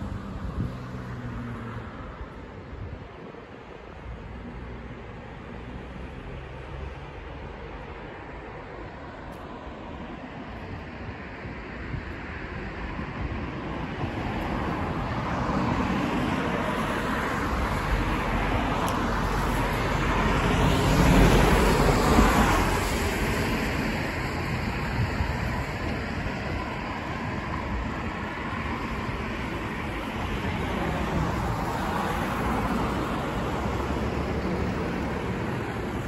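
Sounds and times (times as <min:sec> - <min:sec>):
traffic hum: 0:00.0 - 0:36.0.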